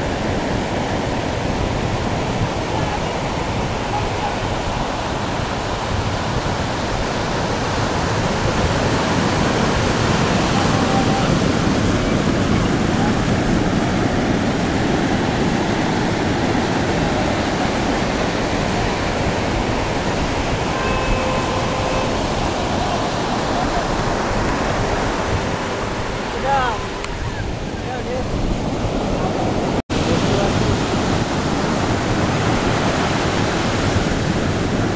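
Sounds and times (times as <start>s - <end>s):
surf breaking on a beach: 0.0s - 34.9s.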